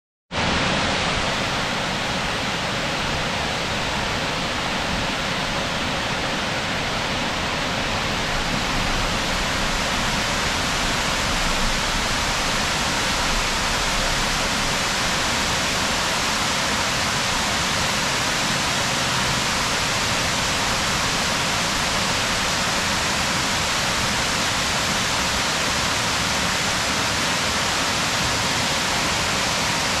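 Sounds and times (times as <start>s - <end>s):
waterfall rushing: 0.4s - 30.0s.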